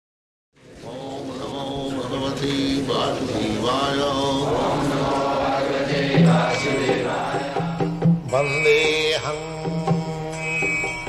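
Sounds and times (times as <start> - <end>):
chanting: 0.6 - 11.0.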